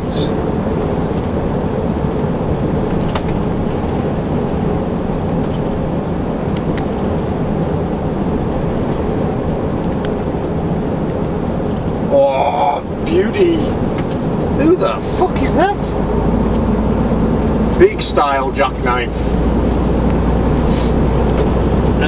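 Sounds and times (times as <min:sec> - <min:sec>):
lorry engine and road noise: 0:00.0 - 0:22.0.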